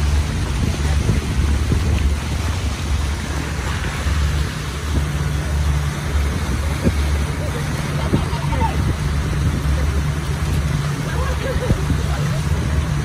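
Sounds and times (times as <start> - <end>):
motorboat engine droning: 0.0 - 13.0
rushing water: 0.0 - 13.0
wind: 0.0 - 13.0.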